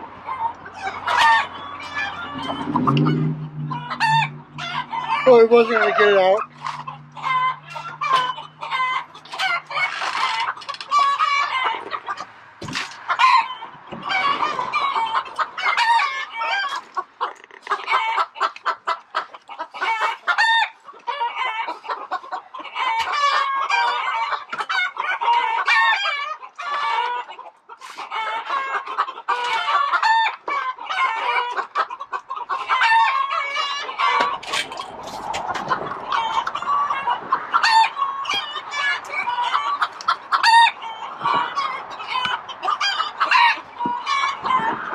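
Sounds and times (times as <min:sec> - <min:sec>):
chickens clucking and squawking: 0:00.0 - 0:44.9.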